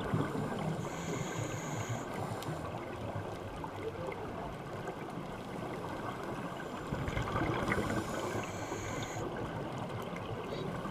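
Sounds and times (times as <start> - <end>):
muffled underwater rushing: 0.0 - 10.9.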